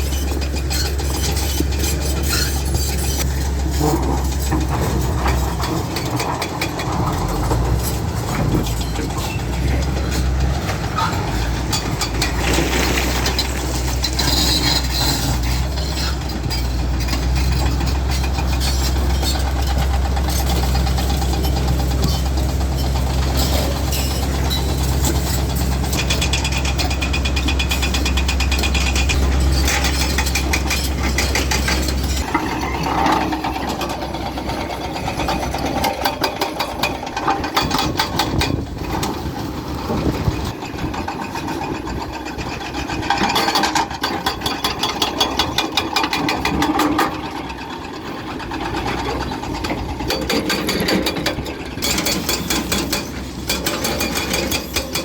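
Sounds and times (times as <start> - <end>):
bulldozer engine droning: 0.0 - 55.0
metallic clanking and rattling: 0.0 - 55.0.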